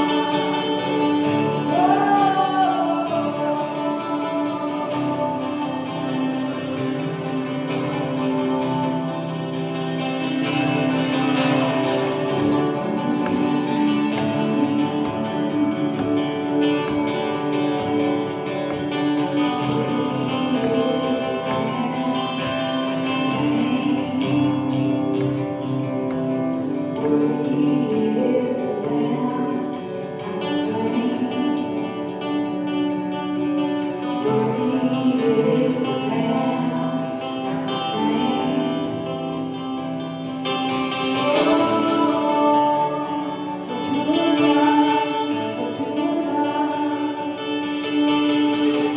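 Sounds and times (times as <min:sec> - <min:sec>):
guitar accompaniment: 0:00.0 - 0:48.9
person singing: 0:00.0 - 0:48.9.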